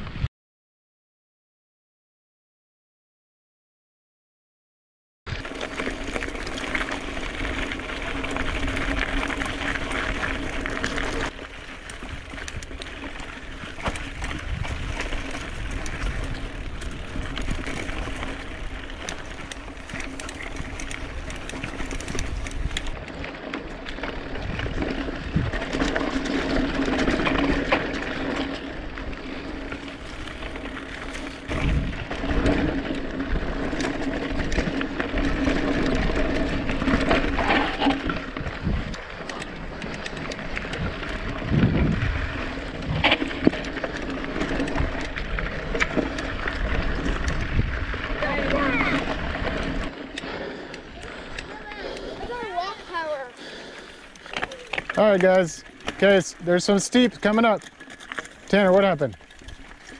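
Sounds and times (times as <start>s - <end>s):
bike rattling and knocking: 5.3s - 59.9s
bike tyres on gravel: 5.3s - 59.9s.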